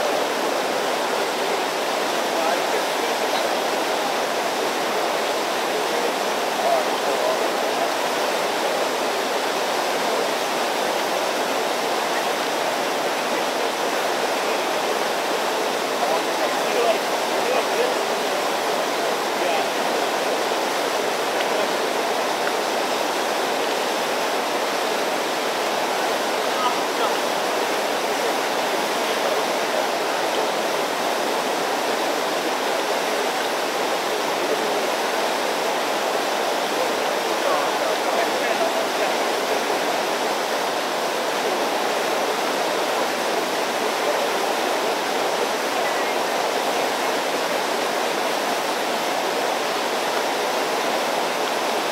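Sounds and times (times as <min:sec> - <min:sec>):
river rapids rushing over rocks: 0:00.0 - 0:51.9.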